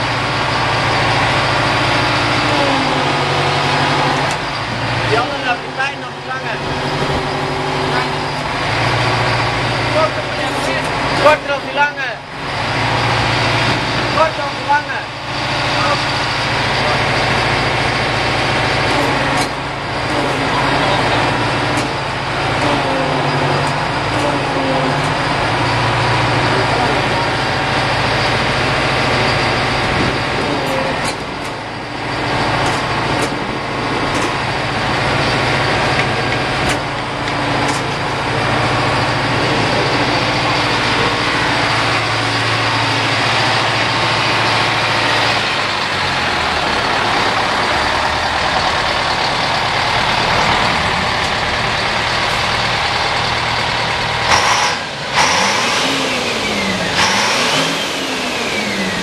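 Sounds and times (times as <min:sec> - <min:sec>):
diesel truck engines idling: 0:00.0 - 0:59.0.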